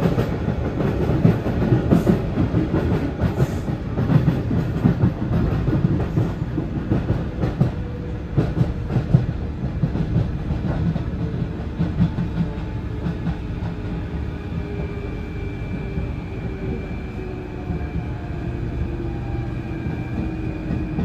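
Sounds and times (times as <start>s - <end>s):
train rumble from inside: 0.0s - 21.0s.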